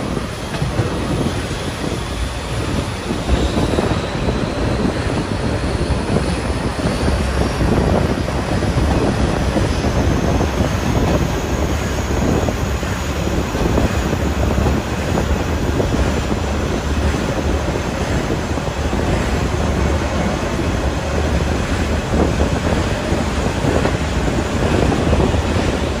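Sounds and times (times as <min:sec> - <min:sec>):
train rumbling from inside carriage: 0:00.0 - 0:26.0.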